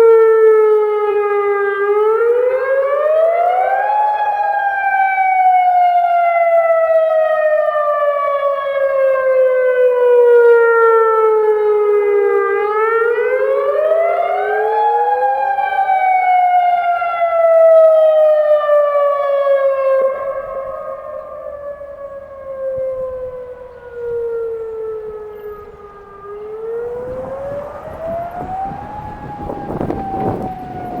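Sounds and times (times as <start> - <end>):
wailing warning siren: 0.0 - 31.0.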